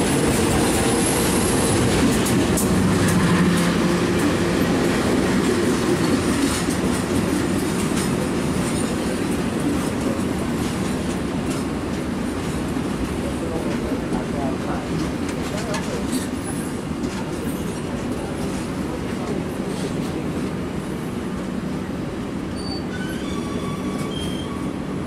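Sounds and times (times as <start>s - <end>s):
train carriages rumbling past: 0.0s - 25.0s.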